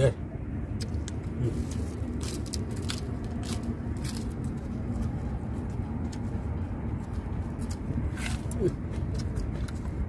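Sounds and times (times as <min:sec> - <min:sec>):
steady low rumble: 0:00.0 - 0:10.0
crunchy lettuce chewing: 0:00.7 - 0:10.0.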